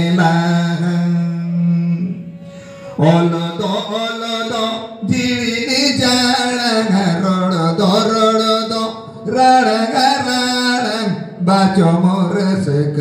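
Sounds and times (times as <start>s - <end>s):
man singing chant-like song: 0.0s - 2.2s, 3.0s - 13.0s.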